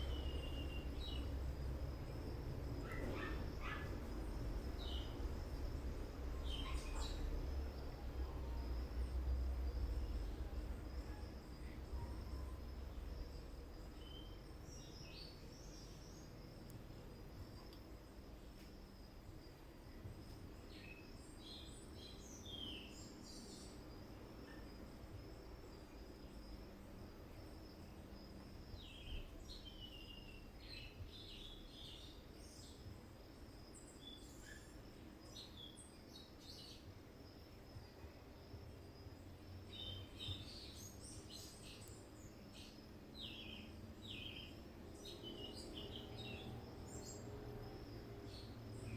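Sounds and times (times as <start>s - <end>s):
faint birds chirping: 0.0s - 48.9s
low steady hum: 0.0s - 48.9s.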